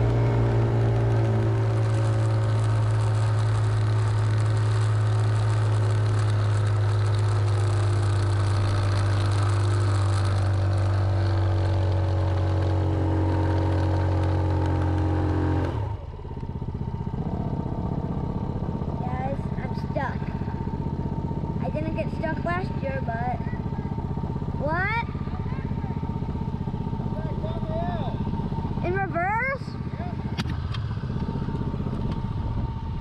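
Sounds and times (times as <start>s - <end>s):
quad engine running: 0.0s - 33.0s.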